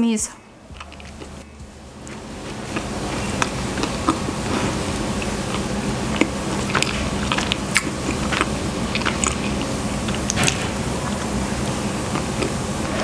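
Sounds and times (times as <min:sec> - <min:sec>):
chewing soft bread: 0:00.7 - 0:12.9.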